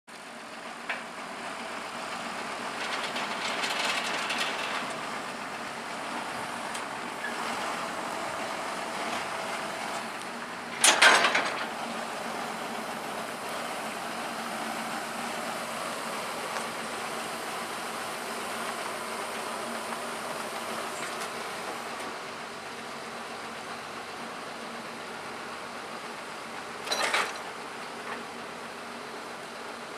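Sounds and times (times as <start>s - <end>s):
tractor diesel engine running: 0.1s - 29.9s.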